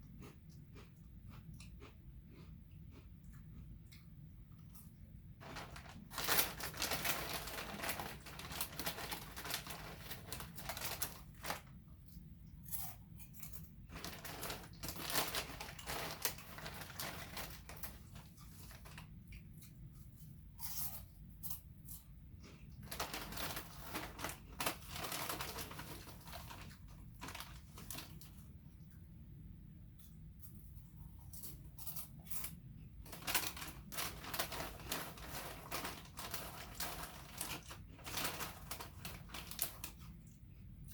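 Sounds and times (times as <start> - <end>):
potato chips being chewed: 0.0 - 28.4, 30.0 - 40.9.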